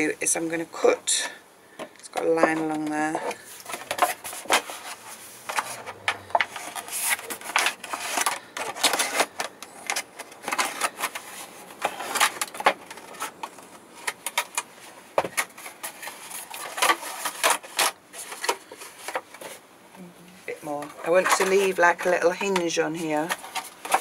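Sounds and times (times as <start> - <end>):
thin plastic crackling: 0.0 - 24.0.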